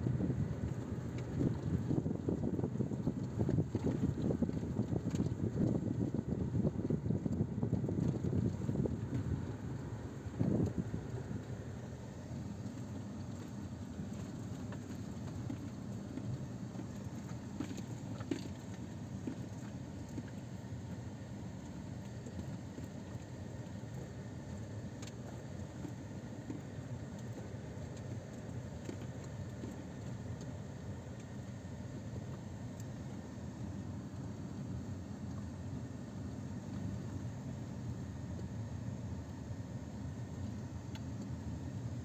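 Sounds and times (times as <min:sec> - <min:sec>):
car driving on dirt track: 0:00.0 - 0:42.0
faint ticks and rattles: 0:00.1 - 0:42.0.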